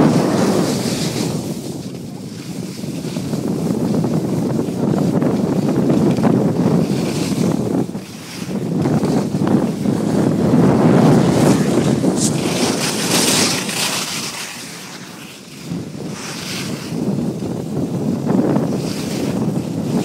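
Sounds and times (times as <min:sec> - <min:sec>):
ski edges scraping snow: 0:00.0 - 0:17.6, 0:18.3 - 0:20.0
wind rushing over microphone: 0:00.0 - 0:20.0.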